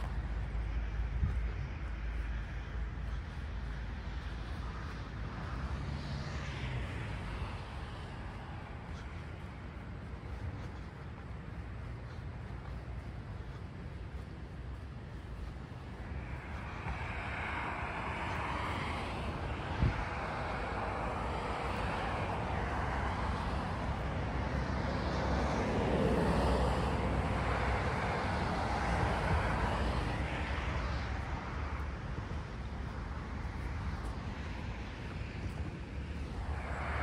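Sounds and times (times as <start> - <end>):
road traffic passing: 0.0 - 37.0
wind rumble on microphone: 0.0 - 37.0.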